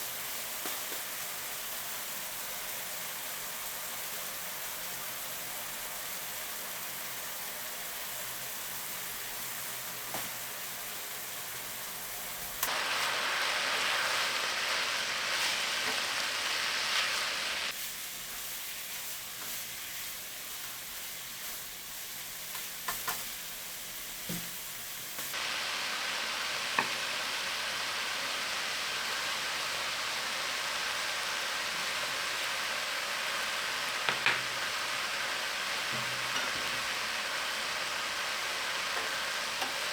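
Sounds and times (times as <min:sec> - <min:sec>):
food sizzling in oil: 0:00.0 - 0:39.9.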